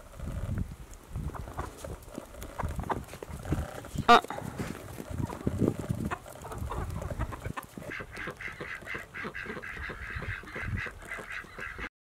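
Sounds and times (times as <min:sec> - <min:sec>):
chickens clucking and calling: 0:01.1 - 0:11.9.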